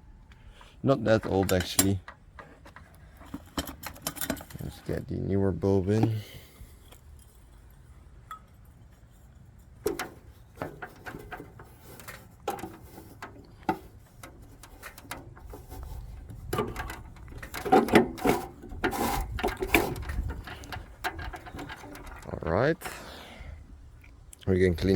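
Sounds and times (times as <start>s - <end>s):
bulb handling clicks and scraping: 0.3s - 23.2s.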